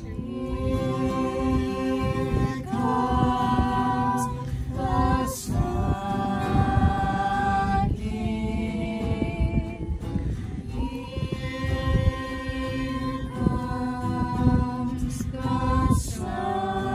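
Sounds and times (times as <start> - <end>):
acoustic guitar strumming: 0.0 - 16.9
group of voices singing: 0.0 - 16.9.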